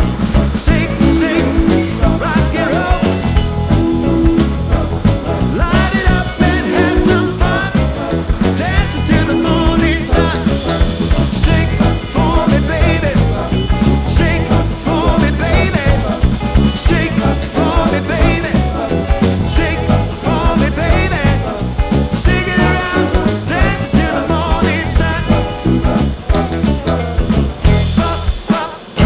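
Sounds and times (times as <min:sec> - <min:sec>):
music with heavy bass beat: 0:00.0 - 0:29.0.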